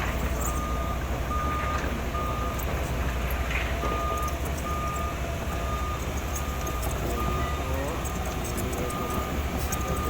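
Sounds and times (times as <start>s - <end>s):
backup alarm beeps: 0.0s - 10.0s
diesel engine rumble: 0.0s - 10.0s.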